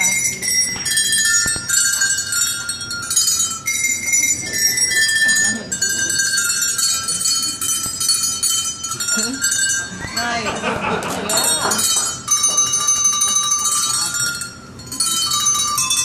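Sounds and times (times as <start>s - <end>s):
small tuned bells ringing: 0.0s - 16.0s.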